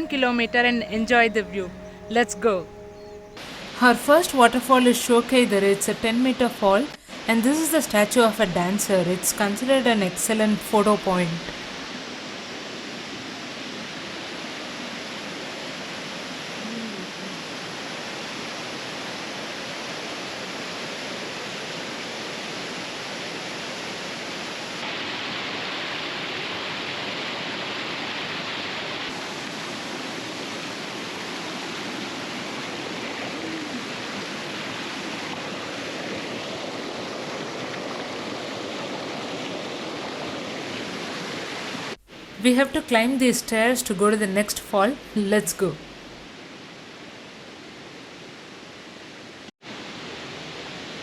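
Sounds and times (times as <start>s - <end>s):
waterfall rushing: 0.0s - 42.4s.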